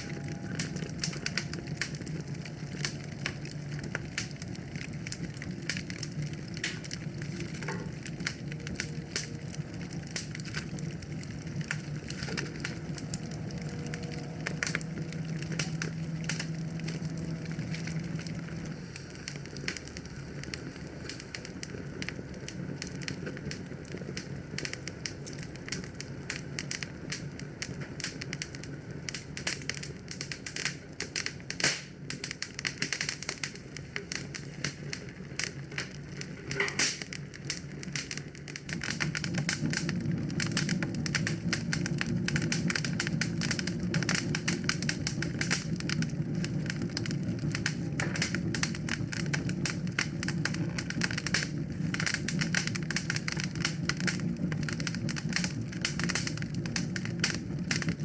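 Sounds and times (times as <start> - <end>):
low steady rumble: 0.0 - 30.9, 37.5 - 58.0
wood fire crackling: 0.0 - 58.0.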